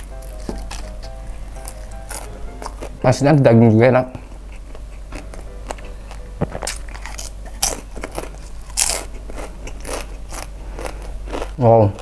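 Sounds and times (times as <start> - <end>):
chewing and crunching food: 0.0 - 3.0, 4.3 - 12.0.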